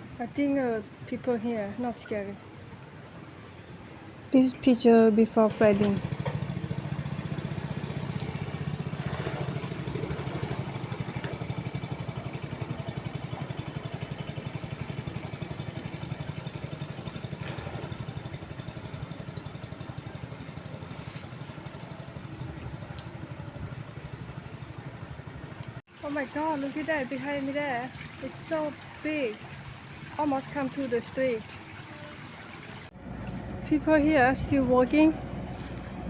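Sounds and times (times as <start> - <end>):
small engine idling: 5.3 - 36.0.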